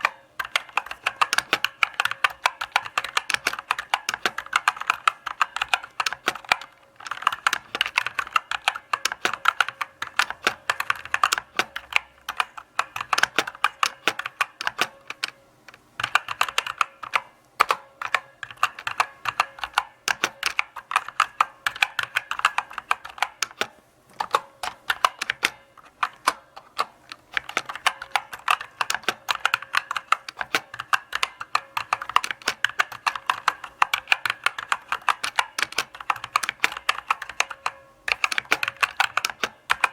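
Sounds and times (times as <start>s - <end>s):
mechanical keyboard key clicks: 0.0s - 39.9s.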